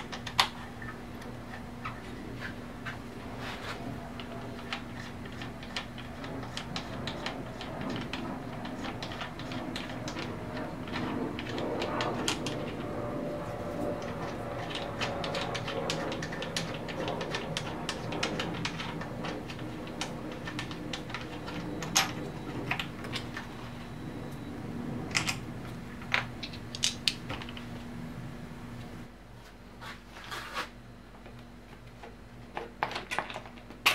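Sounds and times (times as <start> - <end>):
low hum: 0.0 - 29.2.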